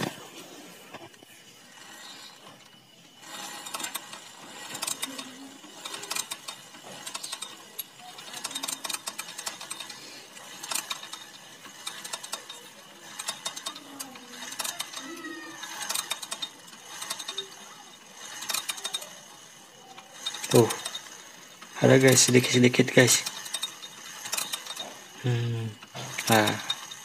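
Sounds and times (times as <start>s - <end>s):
kick-starter ratcheting clicks: 1.0s - 27.0s.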